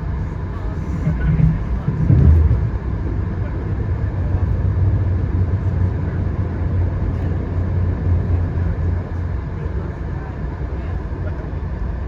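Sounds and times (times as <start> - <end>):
train ride rumble inside coach: 0.0 - 12.0.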